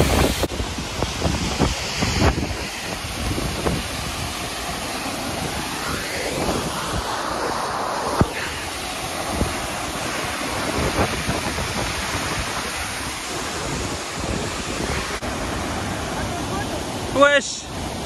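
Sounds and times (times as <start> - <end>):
wind buffeting microphone: 0.0 - 17.0
waterfall roaring: 0.0 - 18.0.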